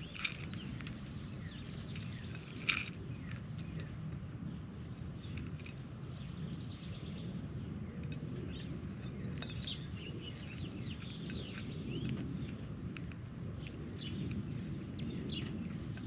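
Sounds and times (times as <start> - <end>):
birds chirping: 0.0 - 16.0
low background rumble: 0.0 - 16.0.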